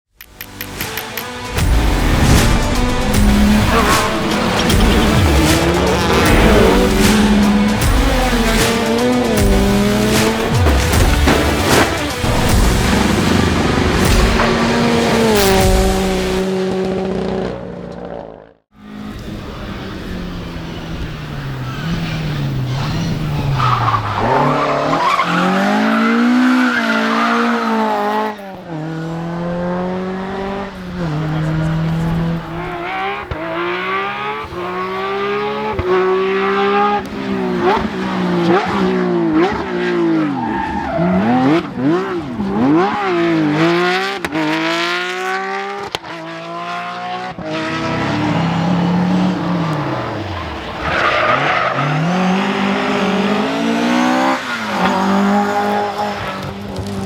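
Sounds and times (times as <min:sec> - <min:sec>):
rally car engines revving: 0:00.4 - 0:57.0
cars passing close by: 0:00.6 - 0:57.0.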